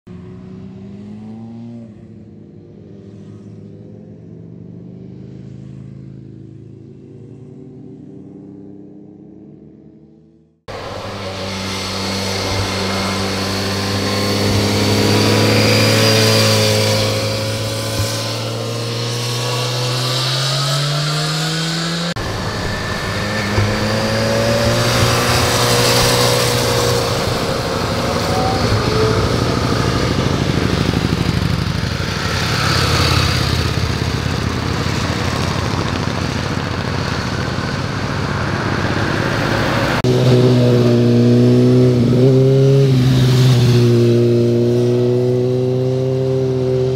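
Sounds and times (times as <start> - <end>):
motorcycle engines passing by: 0.1 - 46.9
car engine: 8.0 - 46.9.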